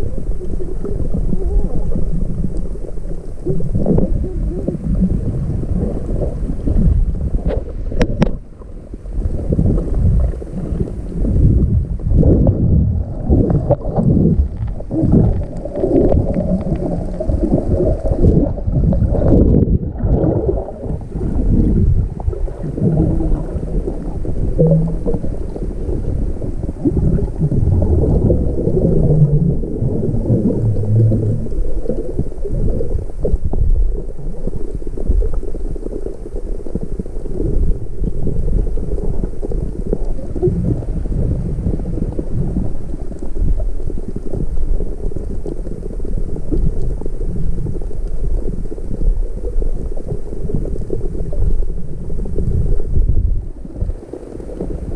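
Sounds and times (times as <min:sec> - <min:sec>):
muffled underwater water sloshing: 0:00.0 - 0:54.9.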